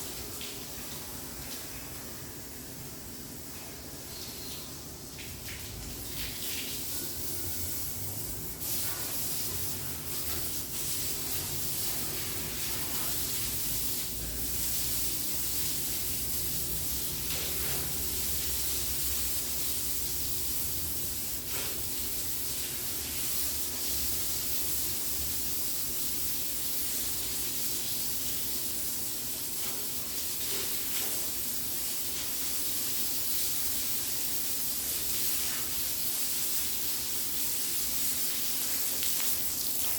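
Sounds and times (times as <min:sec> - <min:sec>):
hissing water spray: 0:05.1 - 0:39.9.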